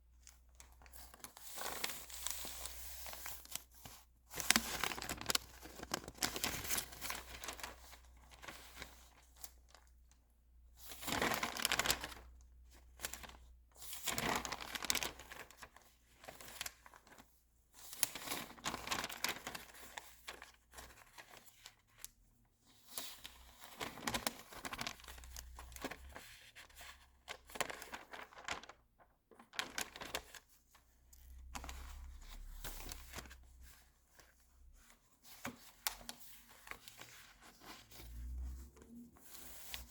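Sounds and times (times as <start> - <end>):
magazine pages being turned: 0.7 - 9.9, 10.9 - 17.2, 18.0 - 21.8, 23.0 - 28.8, 29.4 - 39.9.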